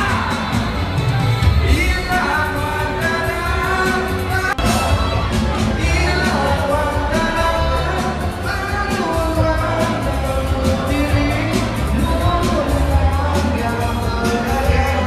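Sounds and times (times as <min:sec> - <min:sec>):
pop backing track: 0:00.0 - 0:15.0
man singing into microphone: 0:01.6 - 0:15.0.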